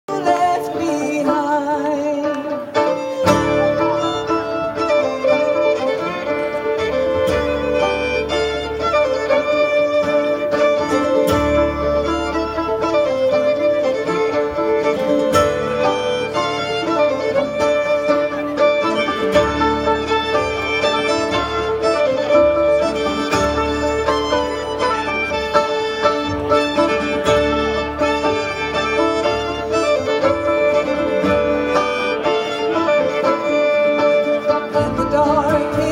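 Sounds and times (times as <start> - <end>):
bluegrass band playing: 0.1 - 35.9
fiddle: 0.1 - 35.9.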